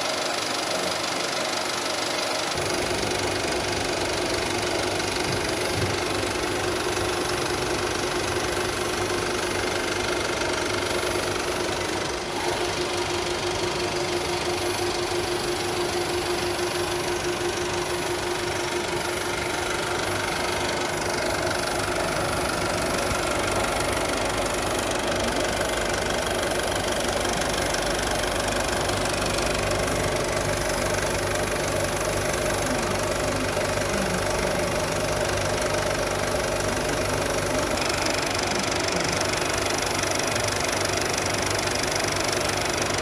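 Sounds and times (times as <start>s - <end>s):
film projector whirring: 0.0s - 43.0s.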